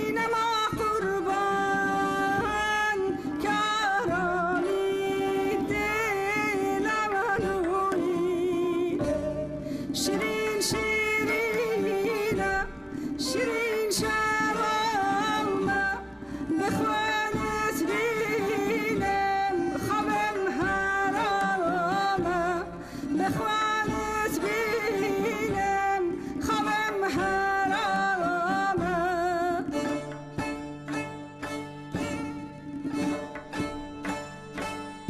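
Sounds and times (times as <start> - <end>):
instrumental accompaniment: 0.0 - 35.0
woman singing folk song: 0.0 - 35.0.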